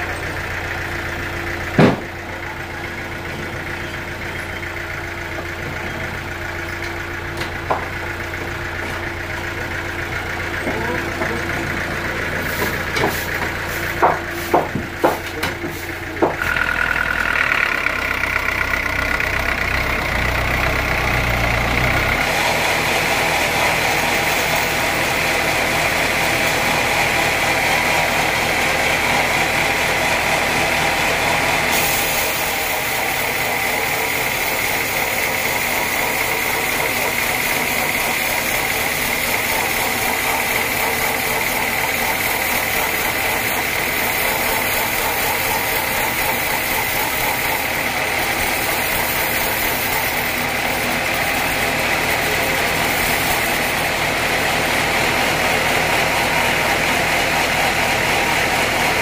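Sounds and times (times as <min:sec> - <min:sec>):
bandsaw cutting wood: 0:10.7 - 0:59.0.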